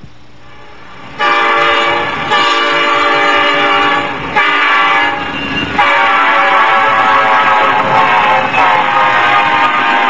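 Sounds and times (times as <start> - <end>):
locomotive horn blasts: 0.5 - 10.0.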